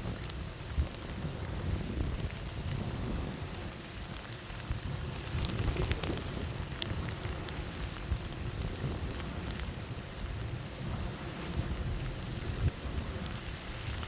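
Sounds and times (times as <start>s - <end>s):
rain ticking on a surface: 0.0s - 14.0s
storm wind gusting: 0.0s - 14.0s.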